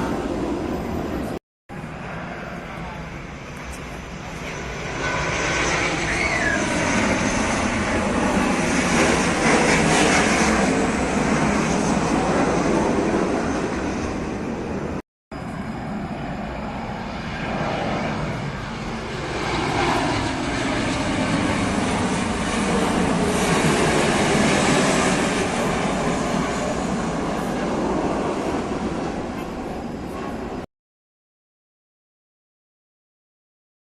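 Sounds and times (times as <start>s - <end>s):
jet engines roaring: 0.0s - 30.7s.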